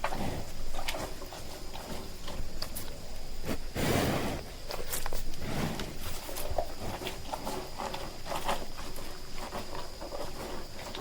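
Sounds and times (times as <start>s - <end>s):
cattle hooves on hard ground: 0.0s - 3.7s, 4.6s - 11.0s.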